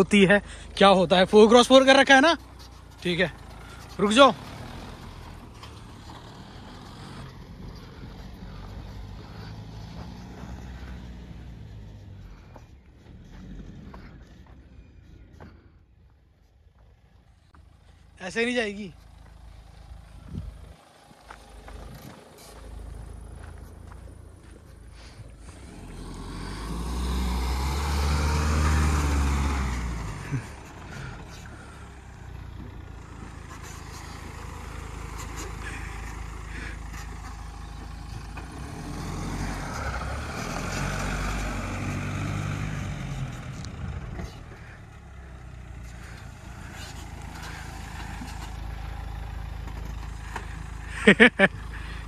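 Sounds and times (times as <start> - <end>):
engine revving: 0.0 - 15.6, 18.2 - 52.0.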